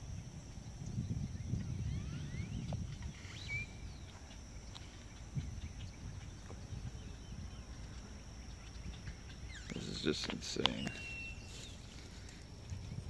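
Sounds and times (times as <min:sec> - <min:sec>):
high insect drone: 0:00.0 - 0:13.0
bird chirps: 0:01.0 - 0:11.9.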